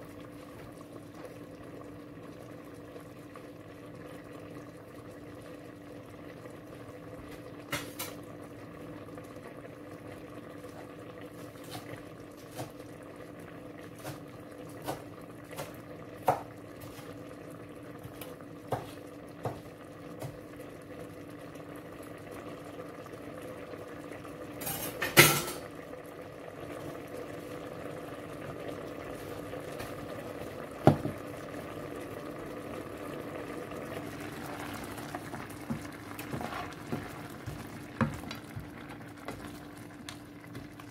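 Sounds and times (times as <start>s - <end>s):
pan simmering: 0.0s - 40.9s.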